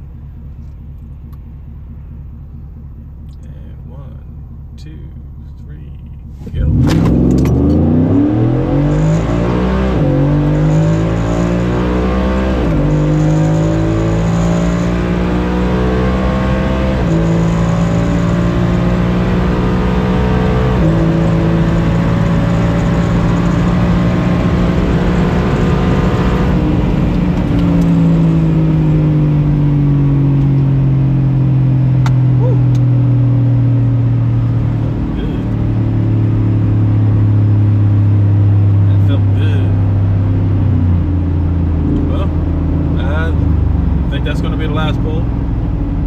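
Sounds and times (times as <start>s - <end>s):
exhaust note: 0.0s - 46.0s
truck engine accelerating: 0.0s - 46.0s.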